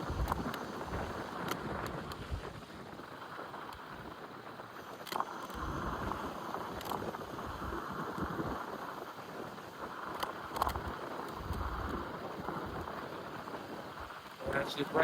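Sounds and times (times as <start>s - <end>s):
scooter tyre and road noise: 0.0s - 15.0s
wind: 0.0s - 15.0s.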